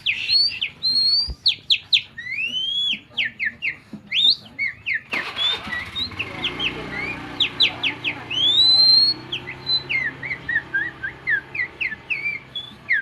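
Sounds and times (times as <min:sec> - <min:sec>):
man whistling birdsong imitation: 0:00.0 - 0:06.3, 0:08.3 - 0:13.0.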